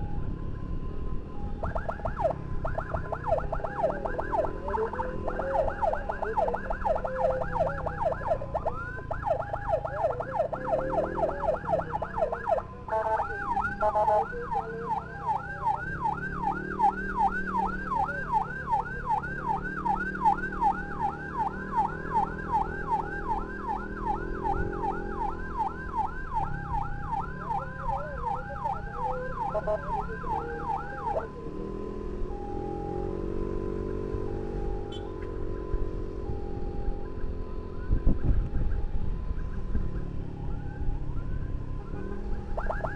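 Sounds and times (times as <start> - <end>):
motorcycle engines humming: 0.0 - 42.9
steady siren tone: 0.0 - 42.9
electronic siren yelping: 1.2 - 42.9.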